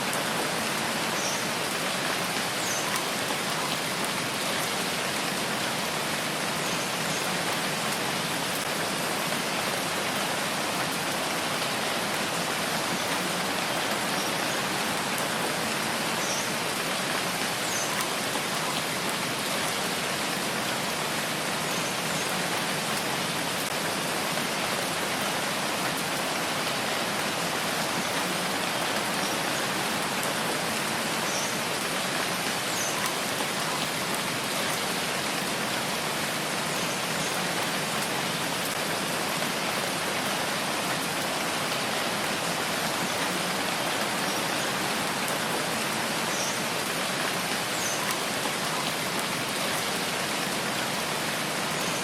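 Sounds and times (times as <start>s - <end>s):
rain falling on a surface: 0.0s - 52.0s.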